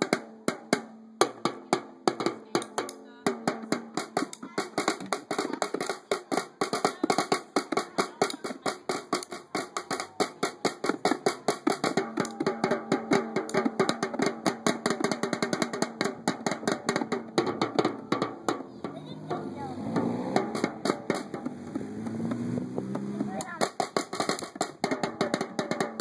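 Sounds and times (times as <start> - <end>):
toy drums played with sticks: 0.0 - 26.0.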